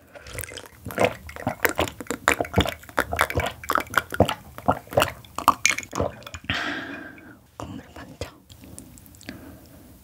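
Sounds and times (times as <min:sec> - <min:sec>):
wet eating sounds: 0:00.0 - 0:09.5.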